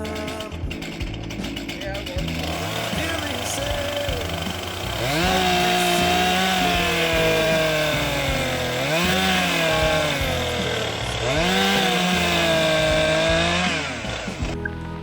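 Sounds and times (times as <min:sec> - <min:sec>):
chainsaw engine revving: 0:00.0 - 0:14.6.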